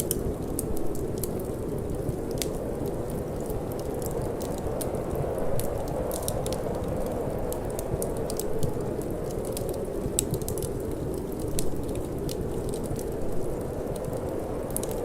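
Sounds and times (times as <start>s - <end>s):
low rush of wind: 0.0s - 15.0s
wood fire crackling: 0.0s - 15.0s.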